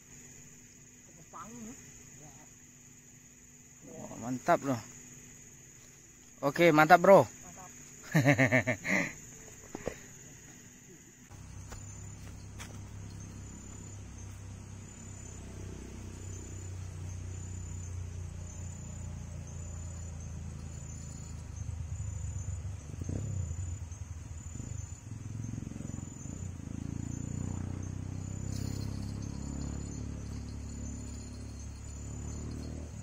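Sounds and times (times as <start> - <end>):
insect chirping: 0.0 - 33.0.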